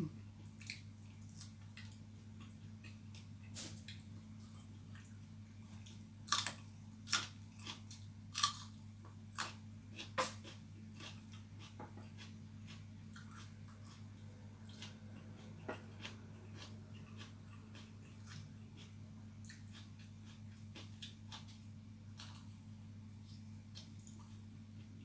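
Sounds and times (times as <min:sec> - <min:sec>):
low electrical hum: 0:00.0 - 0:25.0
person chewing and crunching: 0:00.4 - 0:24.9.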